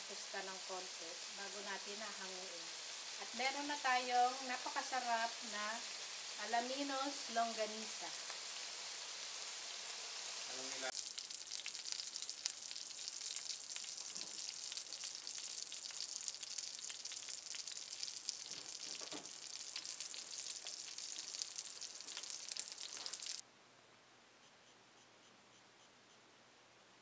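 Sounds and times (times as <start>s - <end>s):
sausages sizzling and popping: 0.0s - 23.4s.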